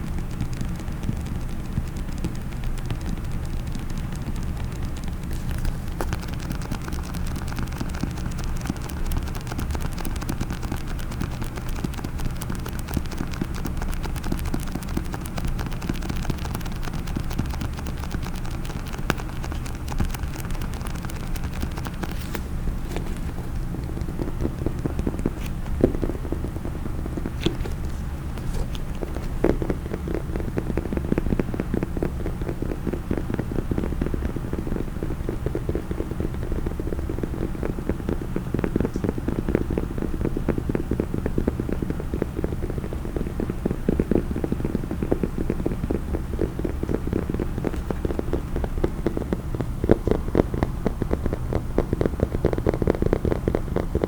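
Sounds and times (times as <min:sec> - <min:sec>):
fast tapping on a case: 0:00.0 - 0:54.0
low steady hum: 0:00.0 - 0:54.0.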